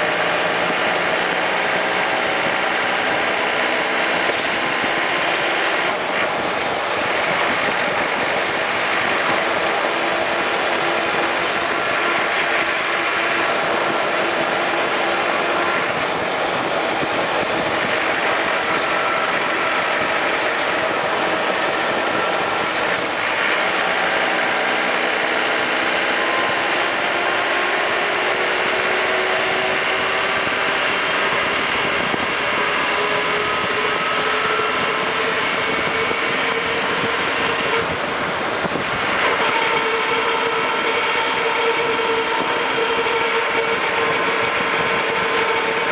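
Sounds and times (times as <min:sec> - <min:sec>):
vehicle driving road noise: 0:00.0 - 0:45.9
whining tones: 0:00.0 - 0:45.9.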